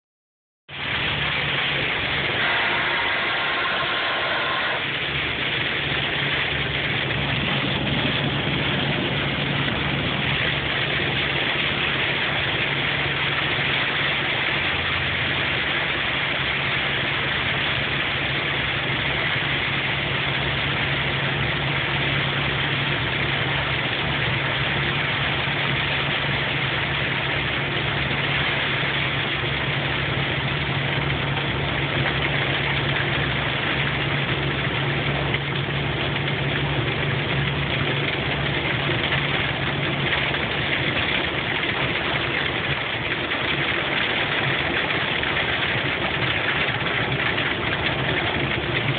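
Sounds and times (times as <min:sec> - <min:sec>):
low hum: 0:00.7 - 0:48.9.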